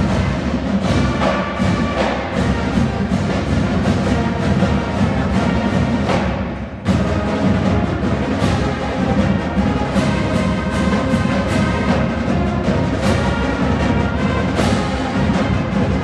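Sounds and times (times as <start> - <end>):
drums and timpani: 0.0 - 16.0
marching band playing: 0.0 - 16.0.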